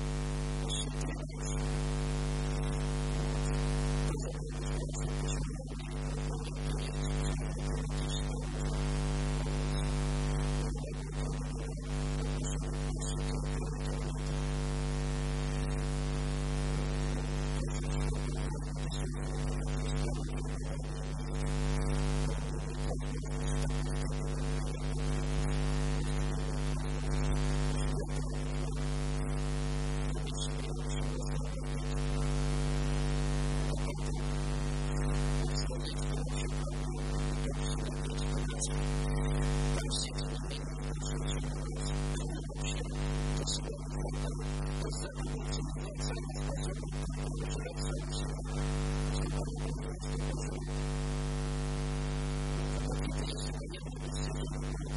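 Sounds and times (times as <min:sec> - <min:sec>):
electrical mains hum: 0:00.0 - 0:54.9.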